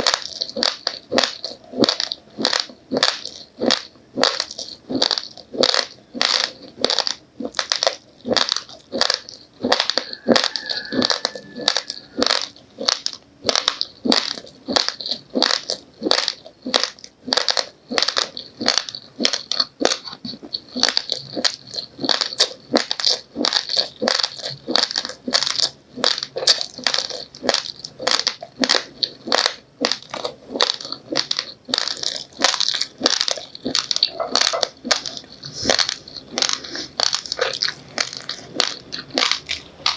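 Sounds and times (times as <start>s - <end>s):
person chewing raw rice: 0.0s - 39.9s.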